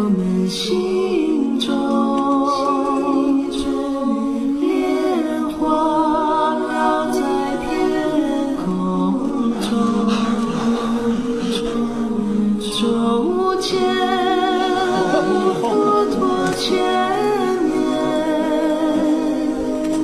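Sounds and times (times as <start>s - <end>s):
several voices singing in harmony: 0.0s - 20.0s.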